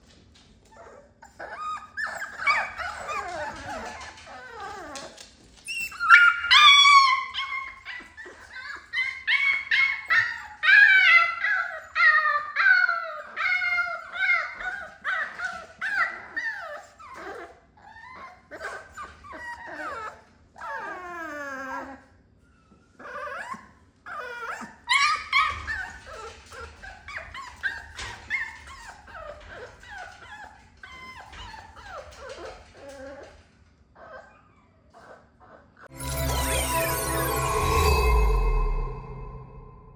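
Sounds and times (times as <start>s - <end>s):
puppy whining and howling: 0.7s - 33.4s.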